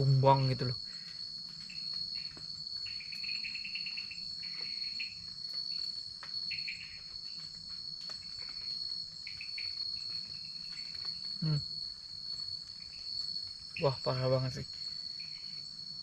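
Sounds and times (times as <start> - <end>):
crickets chirping: 0.0 - 16.0
high-pitched insect drone: 0.0 - 16.0.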